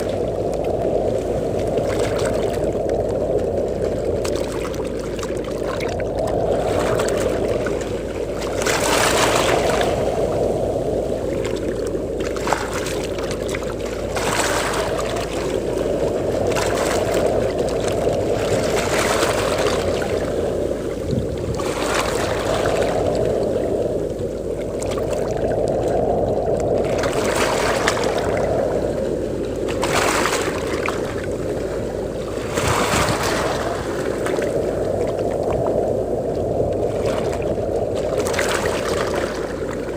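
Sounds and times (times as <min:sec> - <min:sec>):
low rumble of wind: 0:00.0 - 0:39.9
sea waves washing onto beach: 0:00.0 - 0:39.9.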